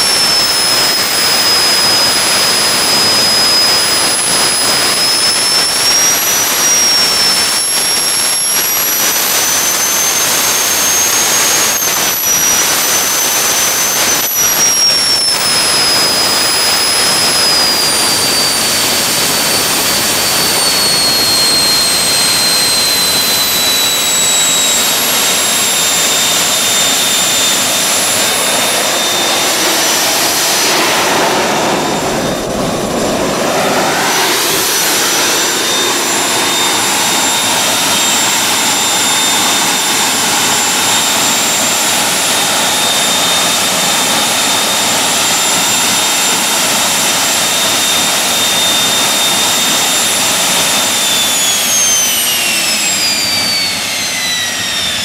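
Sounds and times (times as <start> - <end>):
high compressor whine: 0.0 - 55.0
jet engine roaring: 0.0 - 55.0.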